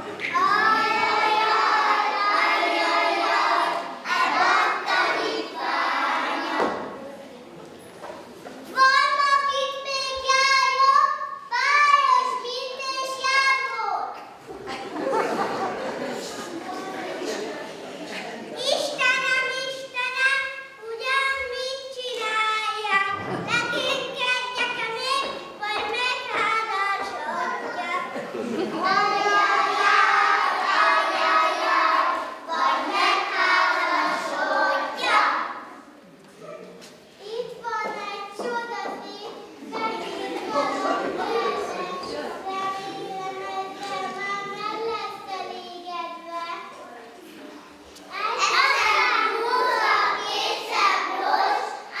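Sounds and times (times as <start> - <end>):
young children singing: 0.0 - 7.0, 8.6 - 36.1, 37.3 - 52.0.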